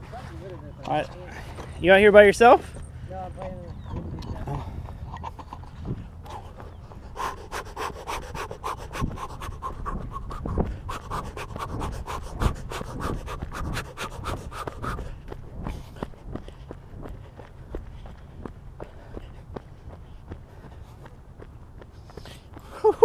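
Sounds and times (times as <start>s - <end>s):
heavy breathing: 0.0s - 1.9s, 4.4s - 22.9s.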